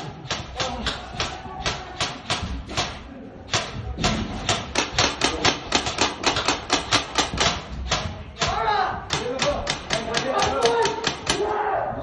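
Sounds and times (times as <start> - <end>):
airsoft guns firing: 0.0 - 11.4.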